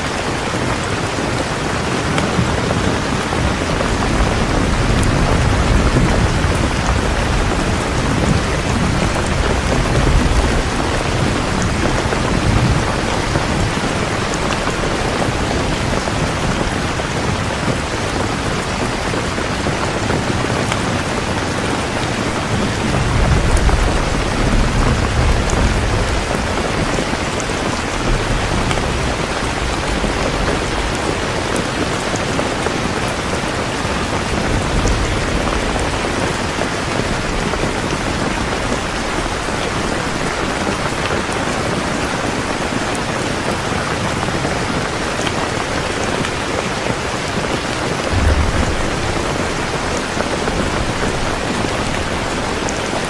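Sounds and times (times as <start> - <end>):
heavy rain falling: 0.0 - 53.0
low thunder rolls: 2.3 - 42.5, 47.4 - 53.0.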